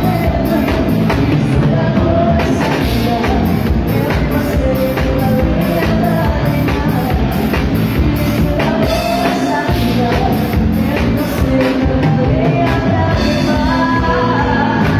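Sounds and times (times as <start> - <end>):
bass guitar: 0.0 - 14.9
live dance band playing: 0.0 - 14.9
man singing: 0.0 - 14.9
woman singing: 0.0 - 14.9.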